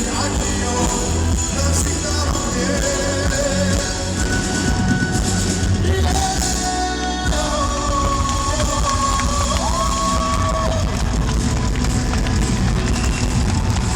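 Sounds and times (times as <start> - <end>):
live pop-rock band playing: 0.0 - 13.9.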